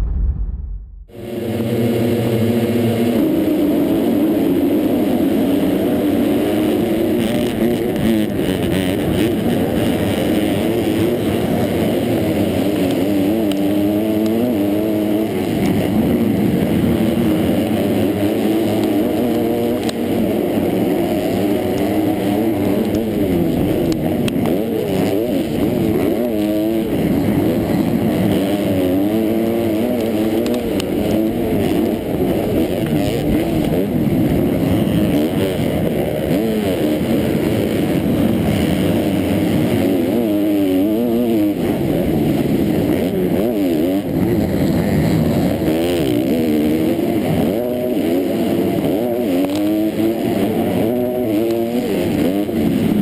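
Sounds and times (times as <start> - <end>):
motocross bike engine revving: 1.1 - 53.0.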